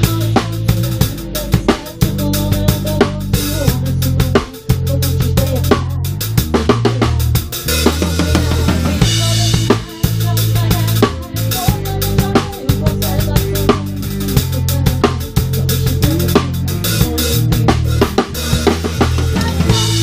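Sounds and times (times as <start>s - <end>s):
drum kit rock beat: 0.0s - 20.0s.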